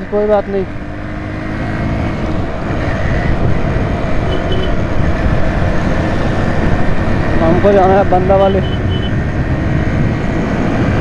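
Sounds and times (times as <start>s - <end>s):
motorcycle engine: 0.0s - 11.0s
road noise: 0.0s - 11.0s
wind rumble on microphone: 1.7s - 11.0s.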